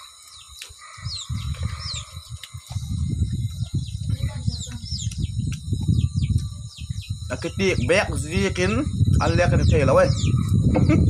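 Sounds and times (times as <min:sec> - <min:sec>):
birds chirping: 0:00.0 - 0:11.0
high-pitched hum: 0:00.0 - 0:11.0
low rumble: 0:01.0 - 0:11.0.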